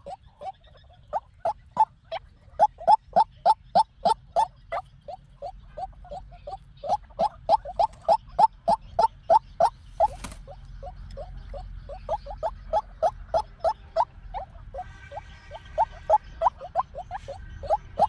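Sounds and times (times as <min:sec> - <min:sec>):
waterhen calling harsh notes: 0:00.0 - 0:18.0.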